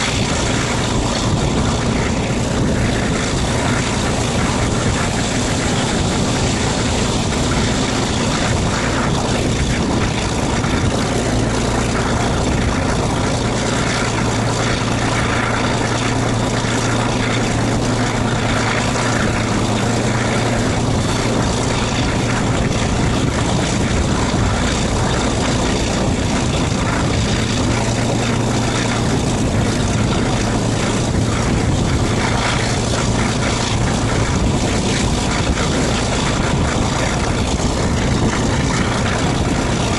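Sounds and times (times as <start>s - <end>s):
diesel locomotive engine drone: 0.0s - 39.9s
wind and running noise: 0.0s - 39.9s.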